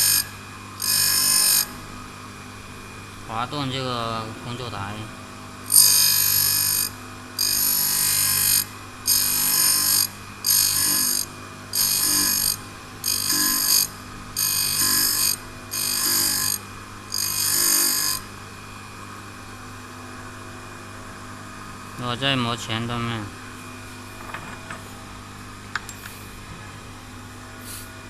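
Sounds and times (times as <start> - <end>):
grinder motor hum: 0.0 - 28.0.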